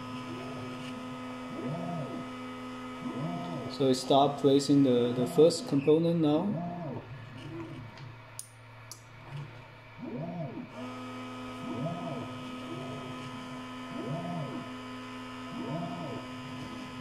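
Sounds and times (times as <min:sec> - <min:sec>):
stepper motors whining: 0:00.0 - 0:08.2, 0:09.2 - 0:17.0
steady hum: 0:00.0 - 0:17.0.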